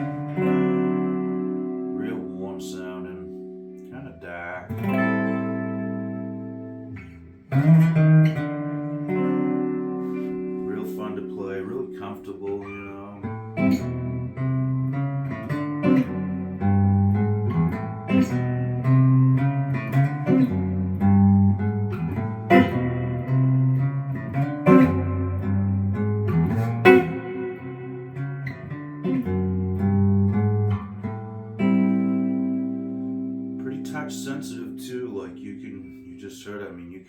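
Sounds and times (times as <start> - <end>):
clean electric guitar playing: 0.0 - 36.8.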